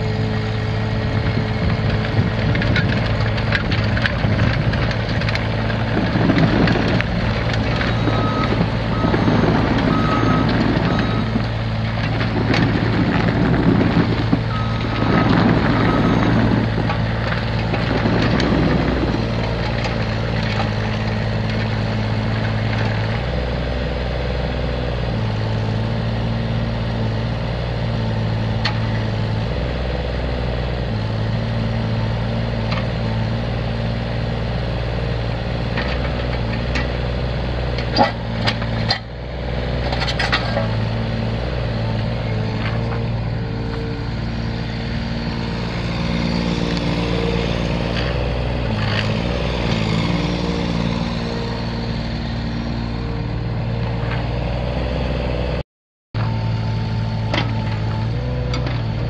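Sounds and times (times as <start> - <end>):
diesel engine running: 0.0 - 55.6, 56.2 - 59.0.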